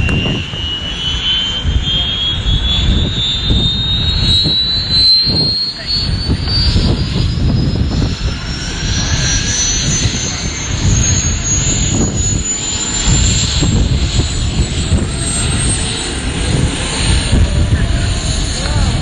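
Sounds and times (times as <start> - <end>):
helicopter engine and rotor rumble: 0.0 - 19.0
helicopter turbine whine: 0.0 - 19.0.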